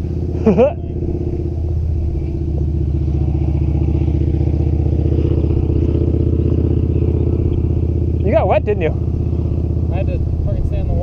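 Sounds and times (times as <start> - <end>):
motor engine droning: 0.0 - 11.0.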